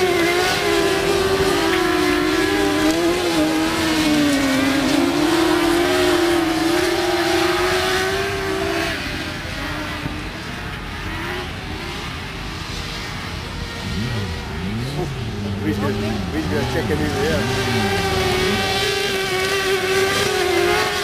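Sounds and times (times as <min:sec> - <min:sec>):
racing car engines revving: 0:00.0 - 0:21.0.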